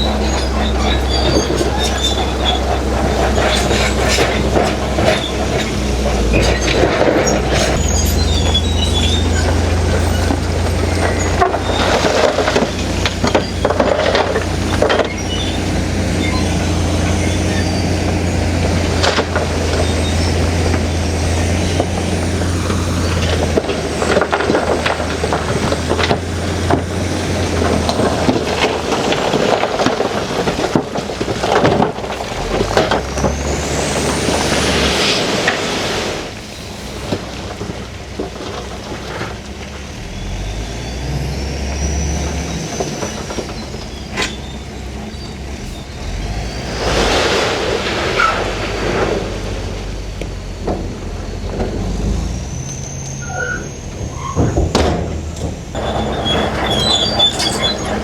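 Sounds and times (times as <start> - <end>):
high squeals: 0.0 - 29.5, 40.1 - 49.1, 50.0 - 58.0
clanks and scraping of rock: 0.0 - 40.2, 41.8 - 58.0
bulldozer diesel engine: 0.0 - 58.0.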